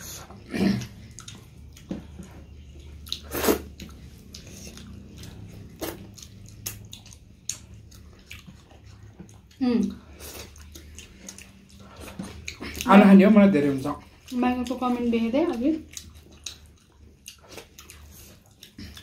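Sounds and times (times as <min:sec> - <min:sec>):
low steady hum: 0:00.0 - 0:19.0
wet chewing and lip-smacking: 0:00.0 - 0:19.0.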